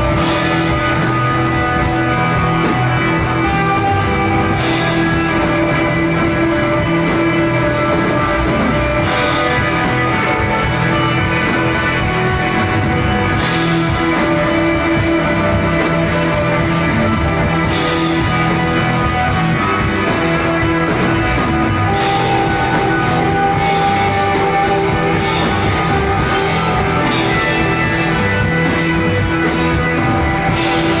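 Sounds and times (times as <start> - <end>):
rock band jamming: 0.0 - 31.0.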